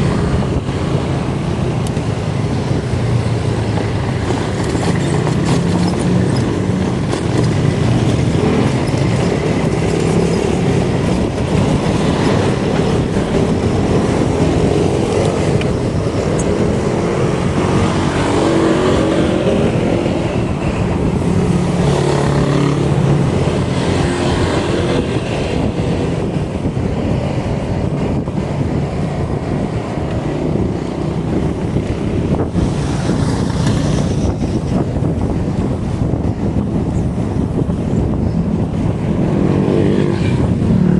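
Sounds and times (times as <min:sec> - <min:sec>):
bicycle road noise: 0:00.0 - 0:40.9
wind rushing: 0:00.0 - 0:40.9.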